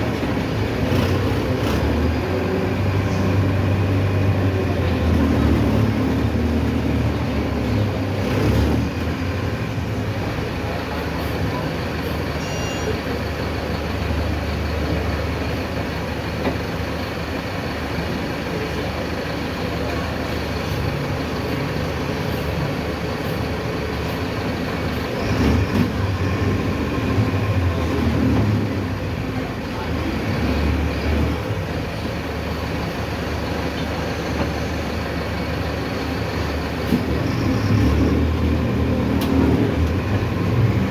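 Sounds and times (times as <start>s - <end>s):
bus diesel engine running: 0.0s - 40.9s
road noise: 0.0s - 40.9s.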